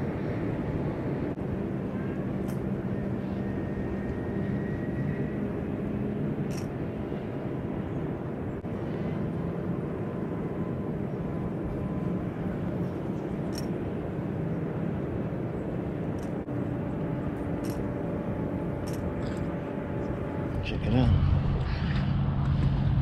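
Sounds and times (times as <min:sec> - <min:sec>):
distant engine drone with whine: 0:00.0 - 0:23.0.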